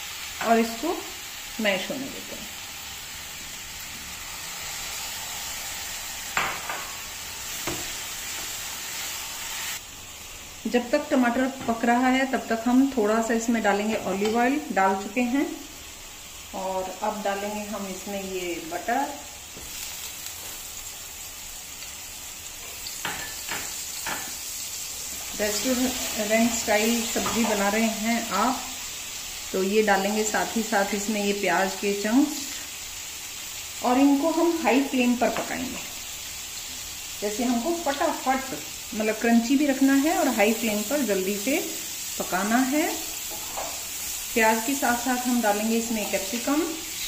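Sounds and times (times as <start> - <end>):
masala sizzling in a pan: 0.0 - 47.0.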